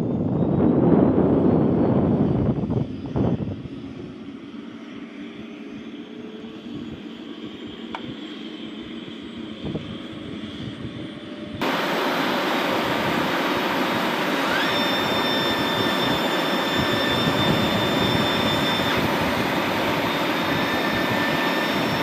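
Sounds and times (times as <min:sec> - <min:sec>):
jet engine running: 0:00.0 - 0:22.0.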